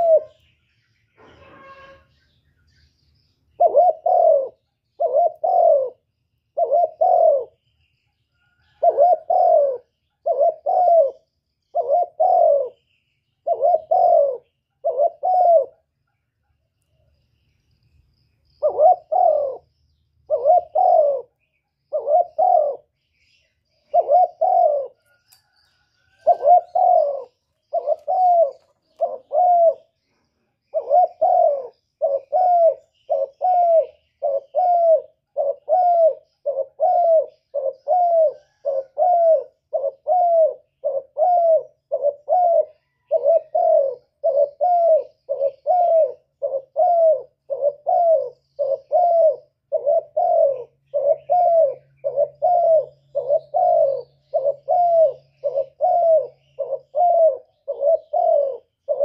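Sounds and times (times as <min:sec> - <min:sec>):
dove cooing: 0:00.0 - 0:00.6, 0:03.2 - 0:07.7, 0:08.4 - 0:15.9, 0:18.5 - 0:59.0.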